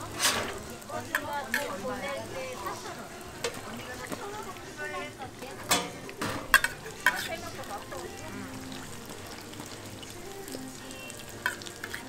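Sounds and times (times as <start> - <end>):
griddle sizzling: 0.0 - 12.0.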